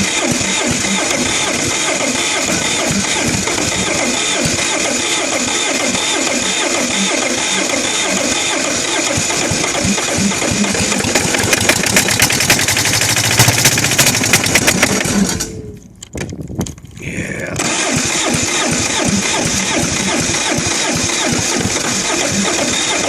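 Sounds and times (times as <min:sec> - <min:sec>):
diesel engine cranking and starting: 0:00.0 - 0:23.0.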